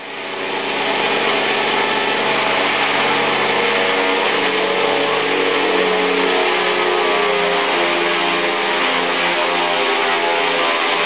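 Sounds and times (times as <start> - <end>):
helicopter rotor spinning: 0.0 - 11.0
electric motor whining: 0.1 - 11.0.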